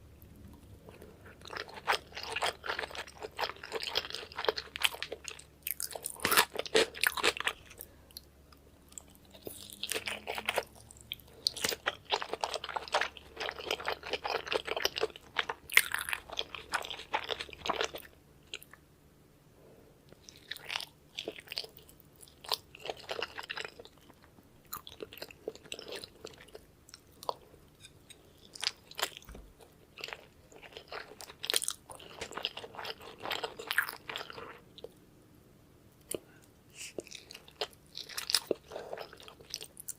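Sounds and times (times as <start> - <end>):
chewing sushi: 0.2 - 18.8, 20.1 - 35.0, 36.0 - 39.9.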